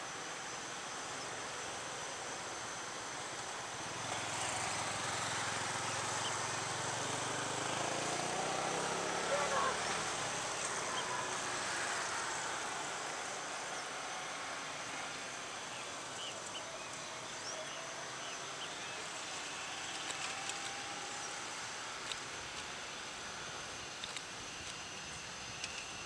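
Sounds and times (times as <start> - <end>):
jet engines hissing with high whine: 0.0 - 26.0.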